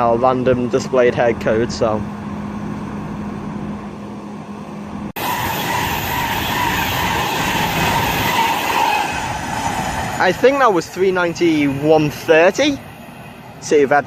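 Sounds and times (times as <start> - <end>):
train passing with wheel and air rush: 0.7 - 14.0.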